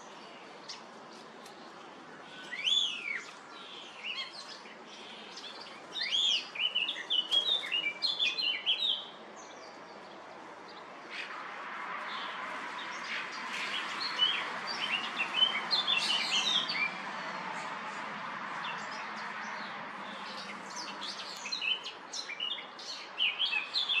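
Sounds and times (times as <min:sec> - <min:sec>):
songbirds chirping and whistling: 0:00.0 - 0:11.4, 0:12.0 - 0:24.0.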